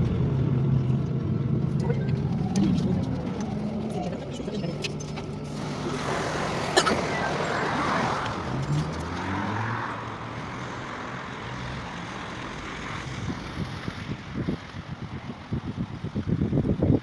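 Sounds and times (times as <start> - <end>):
traffic rumble: 0.0 - 17.0
vehicle engine accelerating: 0.0 - 17.0.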